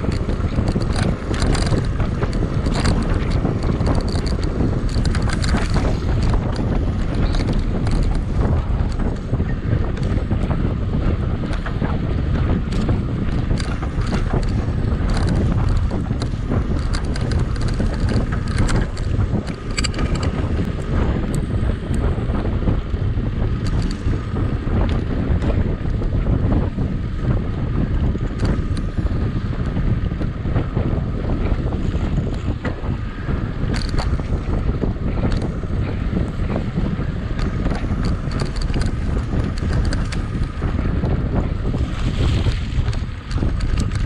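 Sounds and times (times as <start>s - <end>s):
bike clicks and rattles: 0.0s - 44.0s
wind buffeting microphone: 0.0s - 44.0s.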